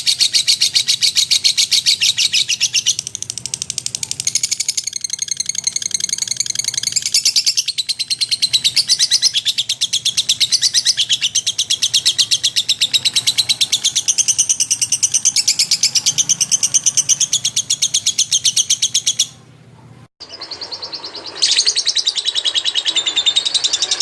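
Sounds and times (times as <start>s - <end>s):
lovebird chattering trill: 0.0s - 19.4s.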